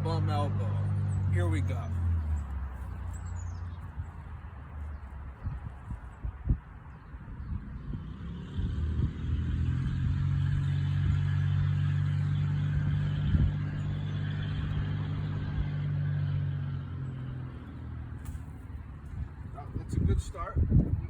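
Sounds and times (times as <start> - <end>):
vehicle engine running: 0.0 - 5.8, 7.0 - 21.0.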